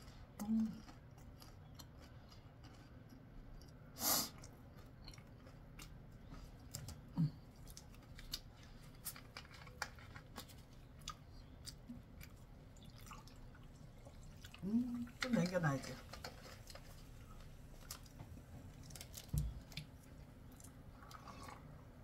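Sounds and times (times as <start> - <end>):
chewing crispy chicken: 0.0 - 21.8.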